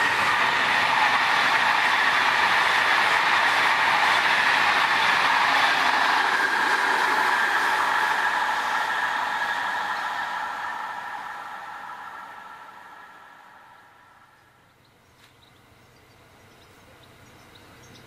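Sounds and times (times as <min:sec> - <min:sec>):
high-speed train passing: 0:00.0 - 0:14.8.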